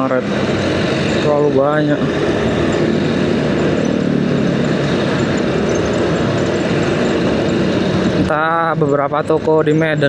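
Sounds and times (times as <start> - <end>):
motorcycle engine drone: 0.0 - 10.0
road and wind noise: 0.0 - 10.0.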